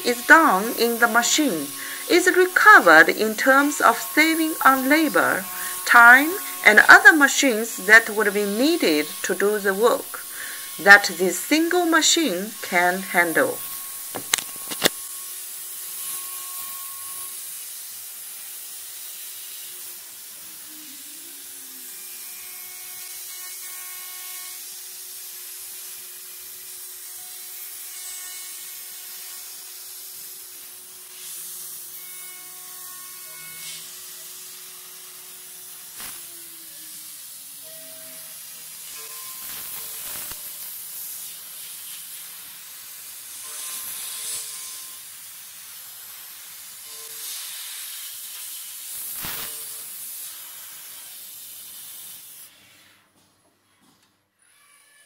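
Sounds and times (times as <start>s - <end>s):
router cutting hiss: 0.0s - 53.0s.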